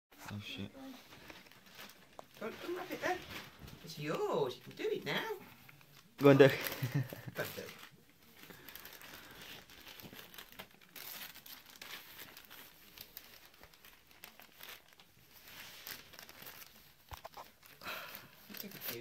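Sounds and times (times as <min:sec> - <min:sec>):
wrapping paper crinkling: 0:00.8 - 0:19.0.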